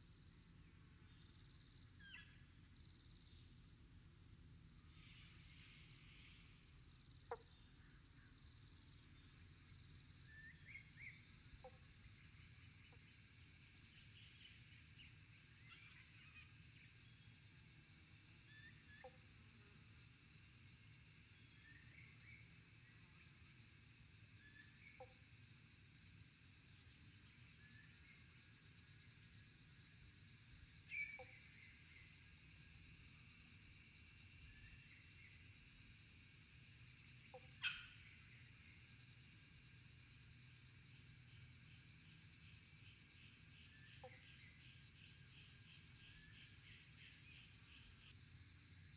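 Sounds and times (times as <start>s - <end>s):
cricket chirping: 0.0s - 48.9s
faint chirps: 0.0s - 48.9s.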